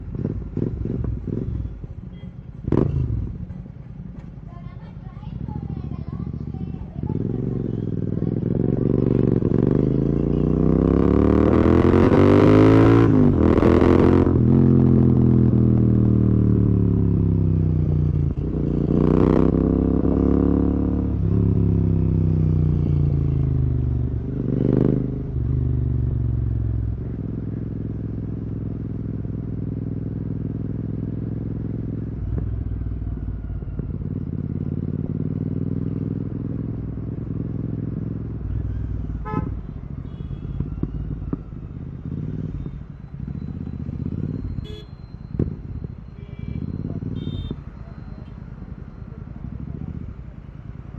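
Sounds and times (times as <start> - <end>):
motorcycle engine revving: 0.0 - 2.0, 2.6 - 3.7, 5.2 - 50.9.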